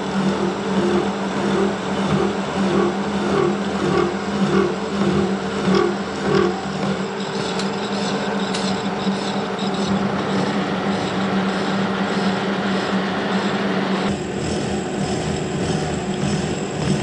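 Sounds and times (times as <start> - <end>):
milling machine humming and whining: 0.0 - 17.0.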